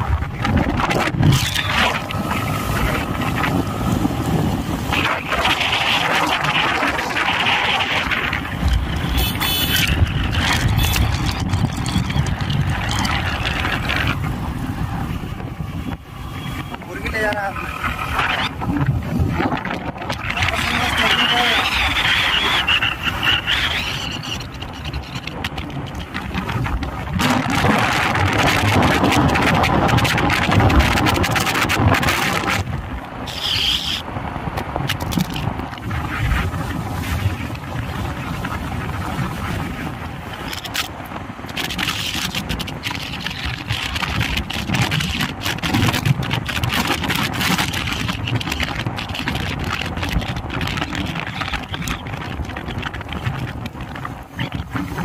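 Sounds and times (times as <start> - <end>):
vehicle engine and road noise: 0.0 - 55.0
wind buffeting microphone: 0.0 - 55.0.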